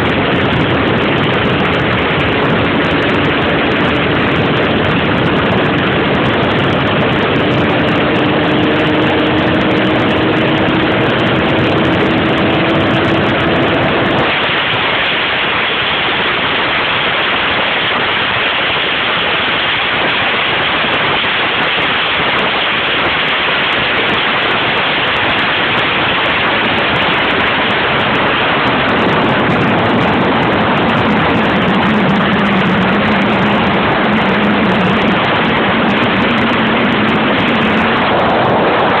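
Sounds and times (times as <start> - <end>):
motorcycle engine: 0.0 - 39.0
wind rushing over microphone: 0.0 - 39.0.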